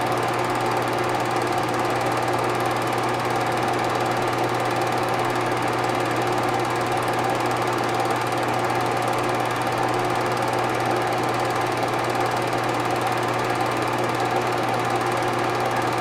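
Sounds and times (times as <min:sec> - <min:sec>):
film projector whirring and rattling: 0:00.0 - 0:16.0.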